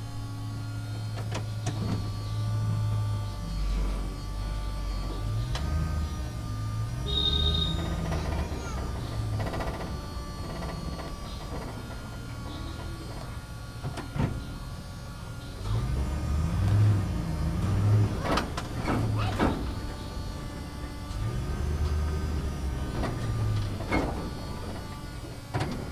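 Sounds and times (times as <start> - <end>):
backhoe engine running: 0.0 - 25.9.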